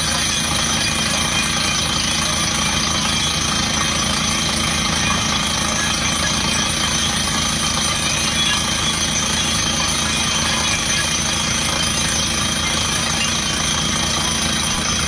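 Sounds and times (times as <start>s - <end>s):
drilling rig engine and machinery: 0.0s - 15.0s.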